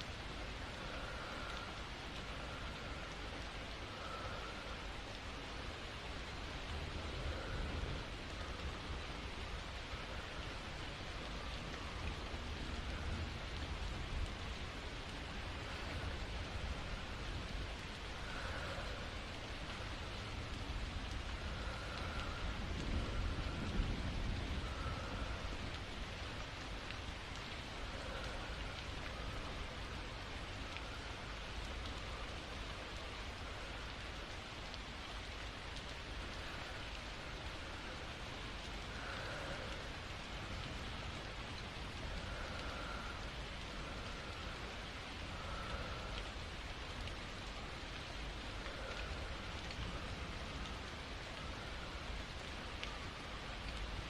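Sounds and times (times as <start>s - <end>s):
rain falling: 0.0s - 54.0s
soft slow breaths: 0.0s - 54.0s.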